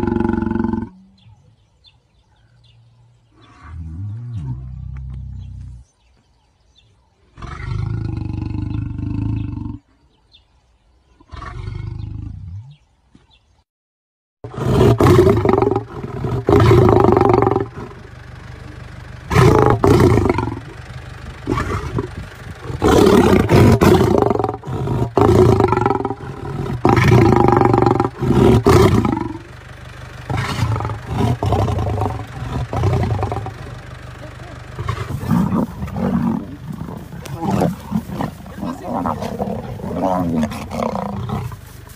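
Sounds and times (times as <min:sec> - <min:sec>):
lion roaring: 0:00.0 - 0:01.5, 0:03.3 - 0:05.8, 0:07.3 - 0:10.0, 0:11.2 - 0:12.9, 0:14.5 - 0:20.8, 0:21.4 - 0:29.5, 0:30.3 - 0:41.9.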